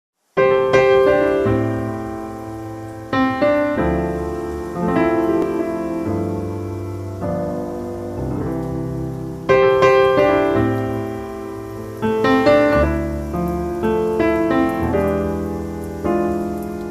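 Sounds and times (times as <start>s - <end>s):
slow piano chords: 0.4s - 16.9s.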